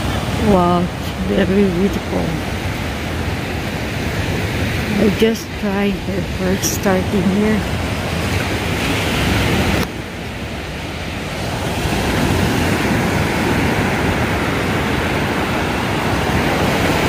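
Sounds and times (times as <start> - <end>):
waves breaking on beach: 0.0 - 17.0.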